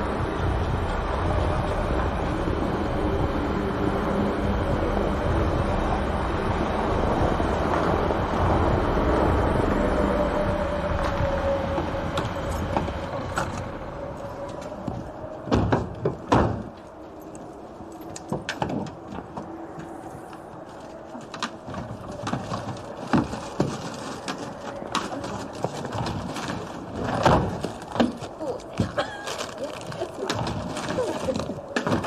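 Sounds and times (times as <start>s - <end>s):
car road noise: 0.0s - 32.0s.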